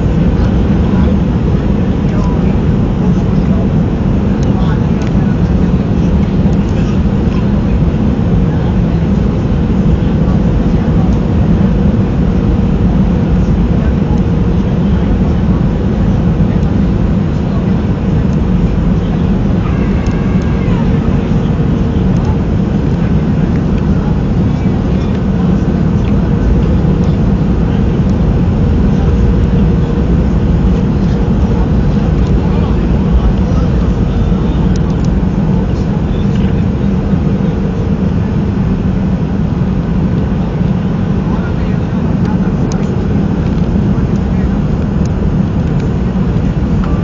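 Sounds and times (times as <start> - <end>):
airplane cabin engine rumble: 0.0 - 47.0
faint steady hum: 0.0 - 47.0.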